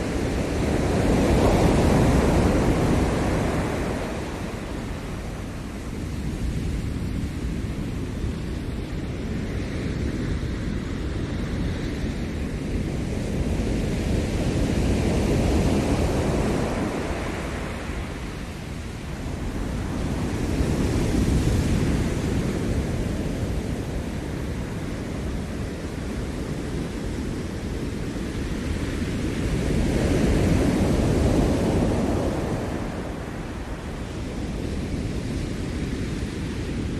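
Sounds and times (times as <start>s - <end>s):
ocean surf washing onto shore: 0.0s - 36.9s.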